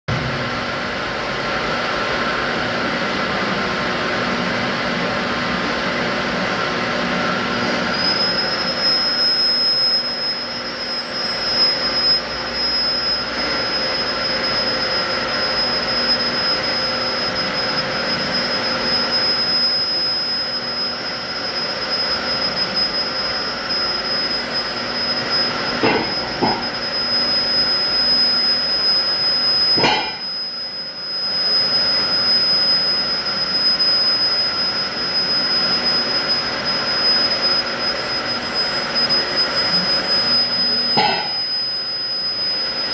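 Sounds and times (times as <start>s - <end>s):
high-pitched squeal: 6.8s - 42.9s.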